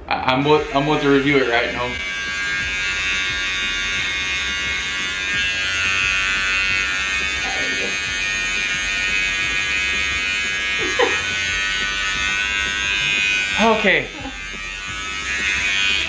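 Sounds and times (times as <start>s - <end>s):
electric hair trimmer buzzing: 0.2s - 16.0s.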